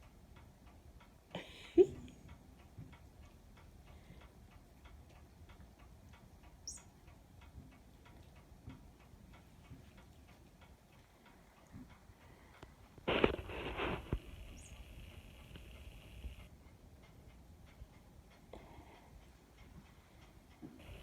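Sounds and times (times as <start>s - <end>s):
faint even ticking: 0.0s - 21.0s.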